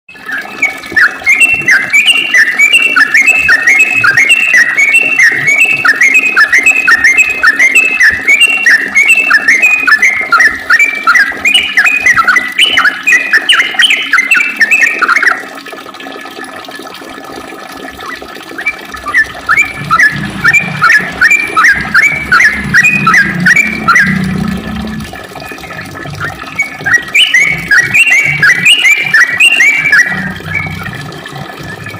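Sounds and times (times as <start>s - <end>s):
bird chirping rapidly: 0.2s - 15.4s, 18.0s - 24.7s, 25.4s - 31.0s.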